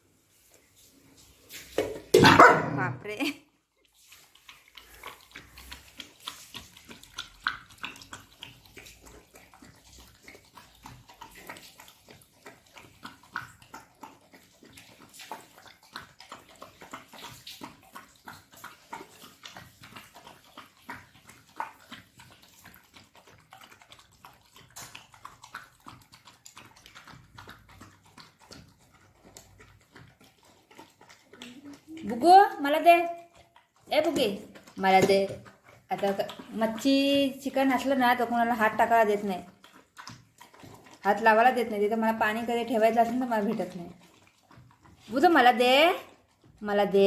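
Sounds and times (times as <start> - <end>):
puppy chewing and licking bowl: 0.0 - 47.0.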